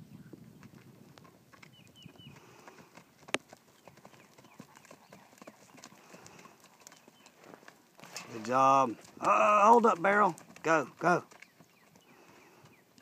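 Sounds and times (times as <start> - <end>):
horse galloping on dirt: 0.0 - 13.0.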